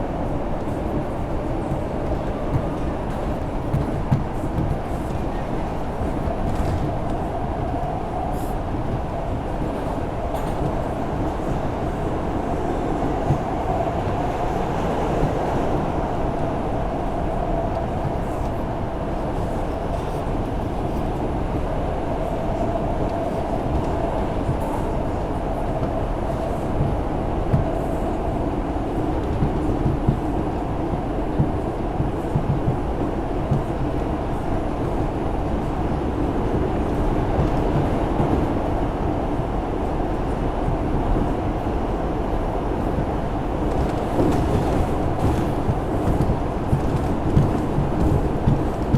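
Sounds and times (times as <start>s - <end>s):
subway train wheels rumbling: 0.0s - 48.9s.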